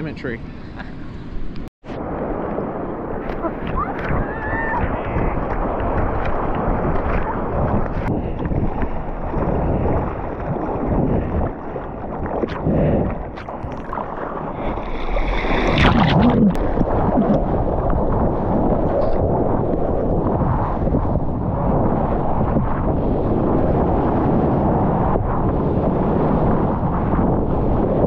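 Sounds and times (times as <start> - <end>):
wind buffeting microphone: 0.0 - 28.0
sea water rushing and splashing: 2.0 - 28.0.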